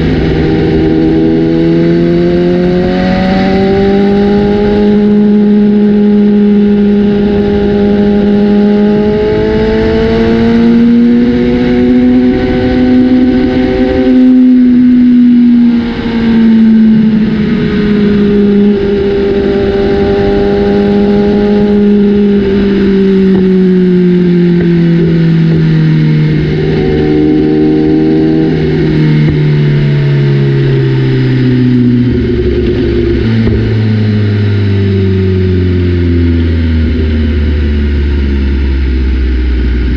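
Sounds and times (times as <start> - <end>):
sport bike engine riding: 0.0 - 39.9.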